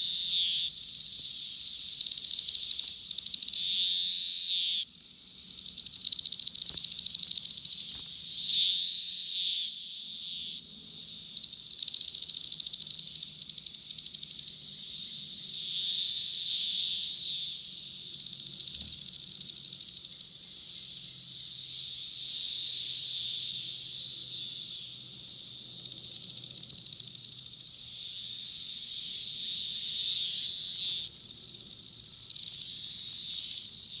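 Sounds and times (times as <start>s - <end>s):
cicadas buzzing: 0.0s - 34.0s.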